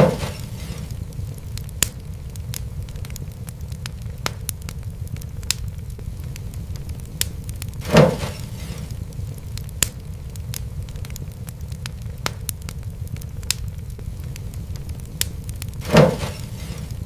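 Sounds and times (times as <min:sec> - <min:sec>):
fire popping: 0:00.0 - 0:17.0
low rumble: 0:00.0 - 0:17.0
wood fire crackling: 0:00.0 - 0:17.0.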